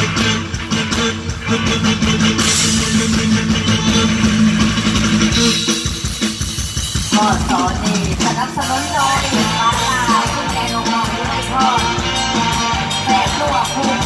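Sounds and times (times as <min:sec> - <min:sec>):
person singing: 0:00.0 - 0:05.8, 0:07.1 - 0:14.0
live band playing: 0:00.0 - 0:14.0.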